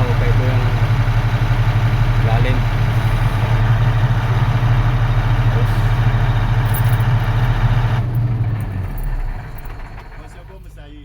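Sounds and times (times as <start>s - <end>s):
heavy diesel engine throbbing: 0.0s - 10.8s
higher engine noise: 0.0s - 11.0s.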